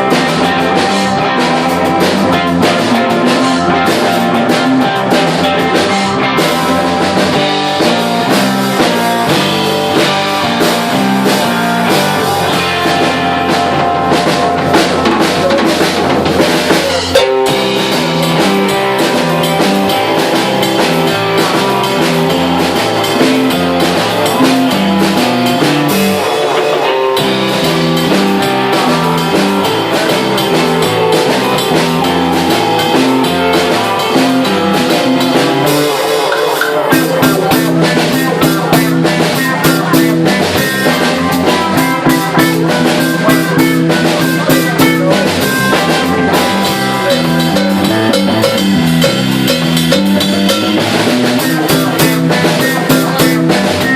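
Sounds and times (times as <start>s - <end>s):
drum kit beat: 0.0s - 53.9s
electric guitar: 0.0s - 53.9s.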